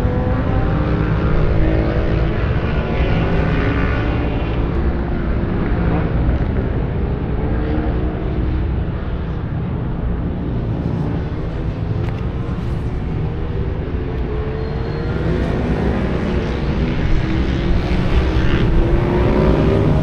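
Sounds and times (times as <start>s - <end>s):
motorcycles racing: 0.0s - 20.0s.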